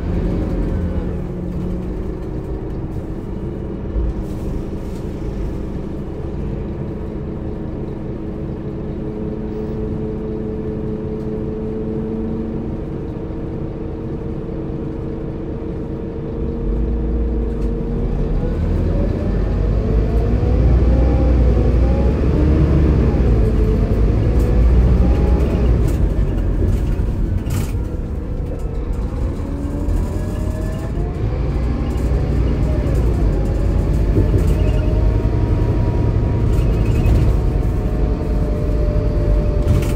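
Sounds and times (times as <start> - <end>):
diesel engine accelerating: 0.0 - 39.9.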